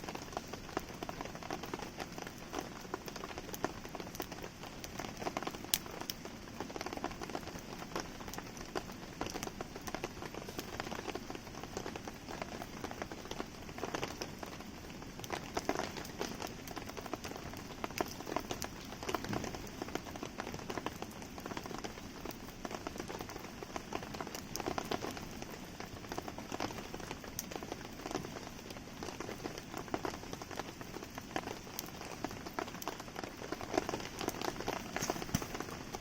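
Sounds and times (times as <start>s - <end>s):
campfire crackling: 0.0s - 36.0s
rain falling: 0.0s - 36.0s.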